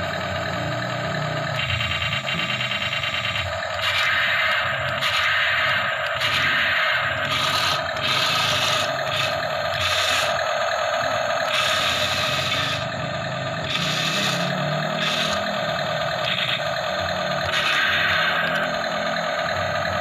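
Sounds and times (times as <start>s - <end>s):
toy tank motor whirring: 0.0s - 20.0s.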